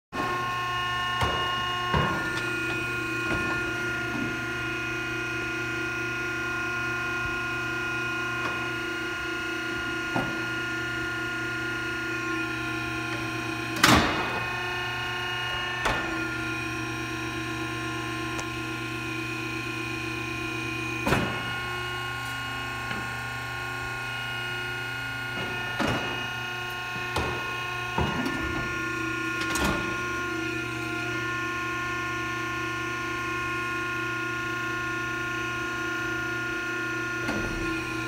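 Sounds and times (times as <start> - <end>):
mechanical hum: 0.2 - 38.0.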